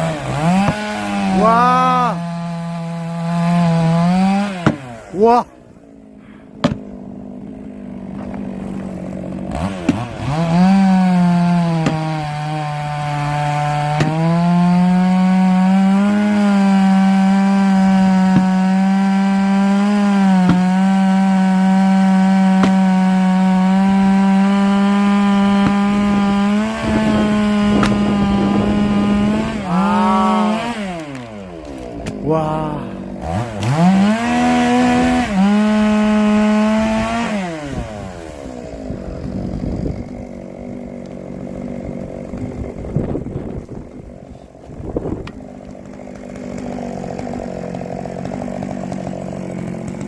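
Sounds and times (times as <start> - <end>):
chainsaw cutting log: 0.0 - 50.0.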